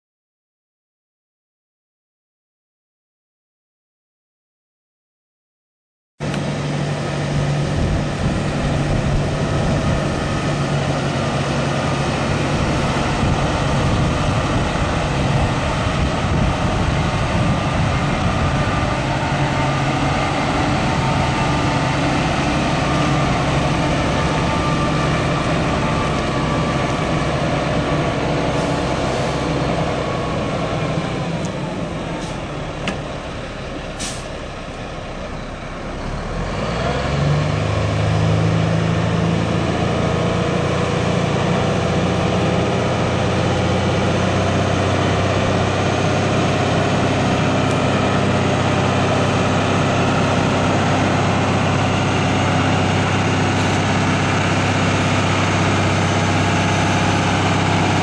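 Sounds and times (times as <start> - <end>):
diesel truck engine running: 6.2 - 58.0.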